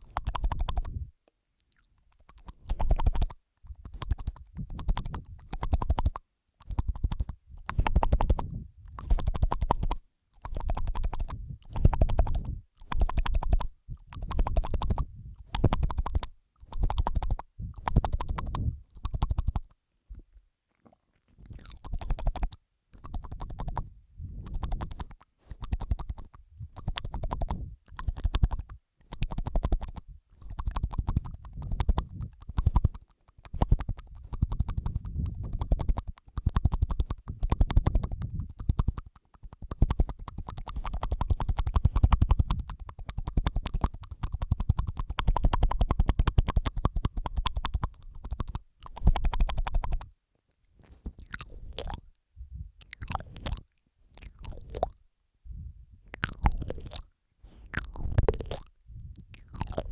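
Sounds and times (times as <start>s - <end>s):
wet mouth clicks and smacks: 0.0s - 59.9s.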